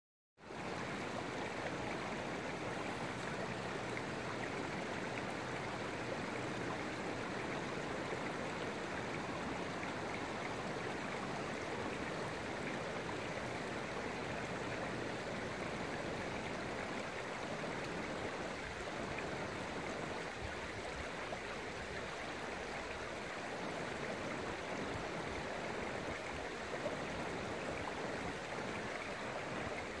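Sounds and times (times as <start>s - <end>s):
river water rushing under ice: 0.5s - 30.0s.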